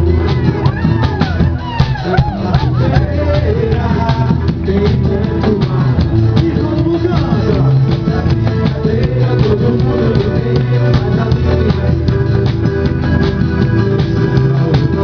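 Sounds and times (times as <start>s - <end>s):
person singing: 0.0s - 13.0s, 14.1s - 15.0s
guitar: 0.0s - 15.0s
live band drum beat: 0.0s - 15.0s.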